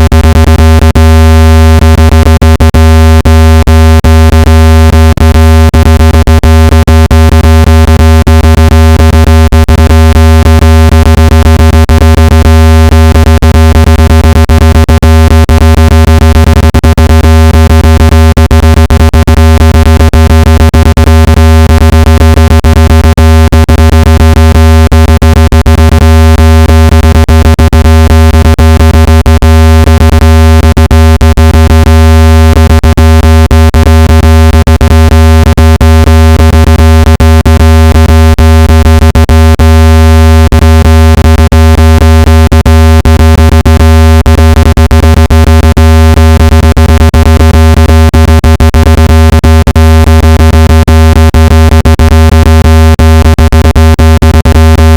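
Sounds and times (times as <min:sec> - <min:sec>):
buzzy electronic speaker tone: 0:00.0 - 0:50.5, 0:52.4 - 0:54.9.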